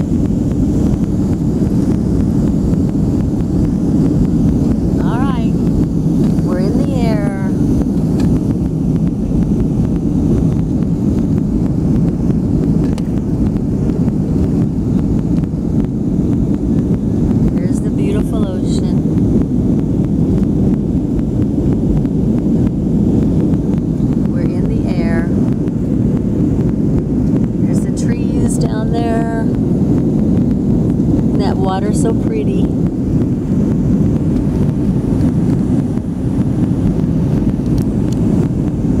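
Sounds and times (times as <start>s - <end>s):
jet engines rumbling in cabin: 0.0s - 39.0s.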